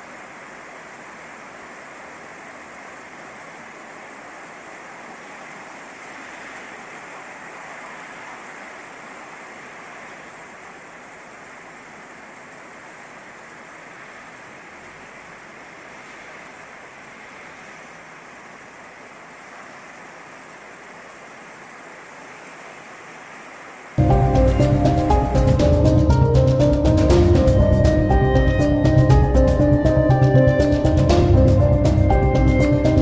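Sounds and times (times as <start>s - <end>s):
steady rain on rooftops and streets: 0.0s - 33.0s.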